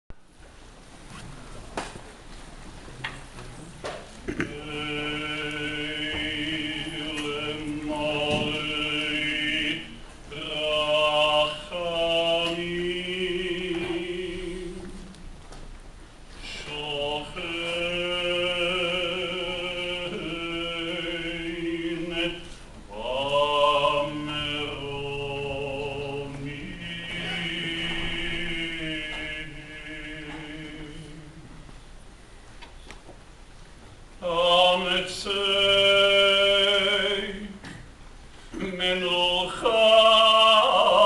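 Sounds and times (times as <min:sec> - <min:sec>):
low chant-like singing: 0:03.0 - 0:15.3, 0:16.4 - 0:31.7, 0:34.2 - 0:37.9, 0:38.5 - 0:41.0.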